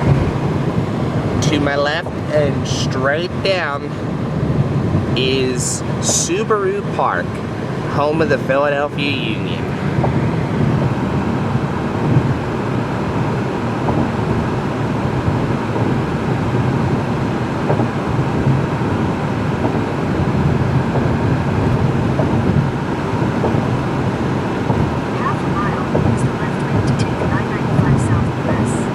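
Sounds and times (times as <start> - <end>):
car road and tyre noise: 0.0 - 28.9.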